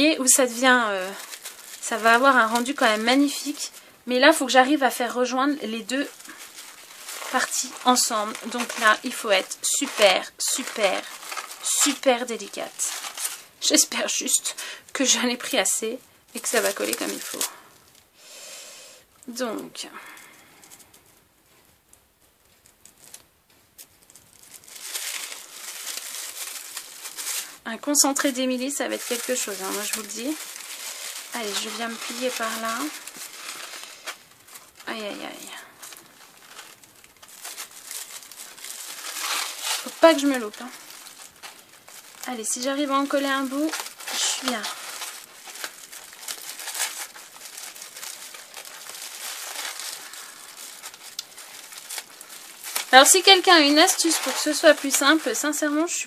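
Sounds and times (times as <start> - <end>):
tissue paper crinkling: 0.0 - 18.2, 19.3 - 56.0.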